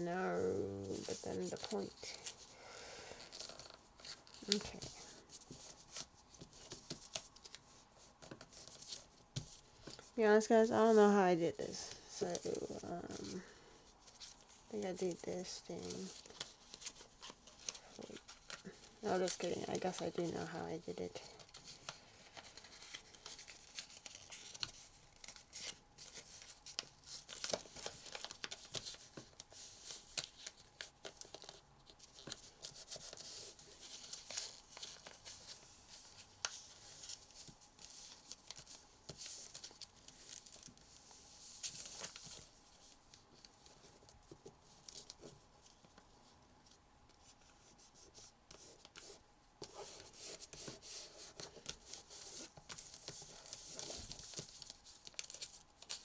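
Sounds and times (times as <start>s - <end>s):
paper crinkling and rustling: 0.0s - 2.6s, 3.2s - 11.1s, 11.7s - 56.0s.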